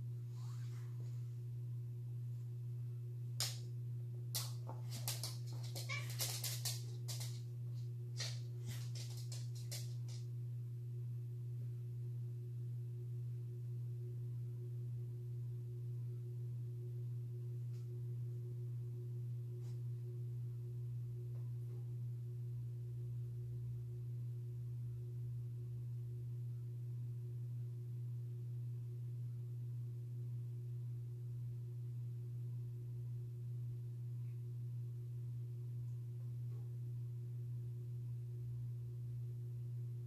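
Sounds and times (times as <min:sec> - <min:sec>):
low electrical hum: 0:00.0 - 0:40.0.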